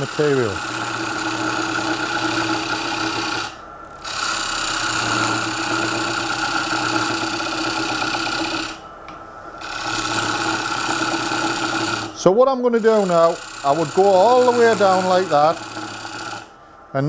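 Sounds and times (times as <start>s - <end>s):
lathe running tone: 0.0s - 17.0s
lathe tool cutting wood: 0.0s - 17.0s.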